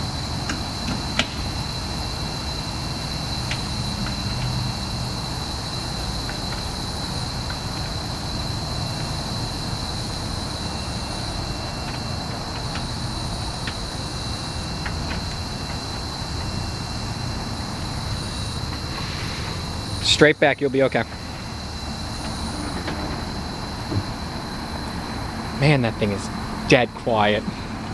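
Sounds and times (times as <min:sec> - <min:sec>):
high-pitched whine: 0:00.0 - 0:27.9
low electric car rumble: 0:00.0 - 0:27.9.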